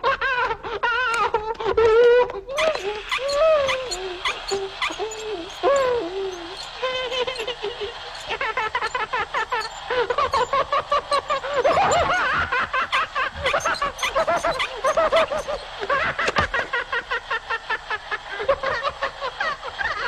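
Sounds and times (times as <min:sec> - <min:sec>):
cartoon characters laughing: 0:00.0 - 0:20.0.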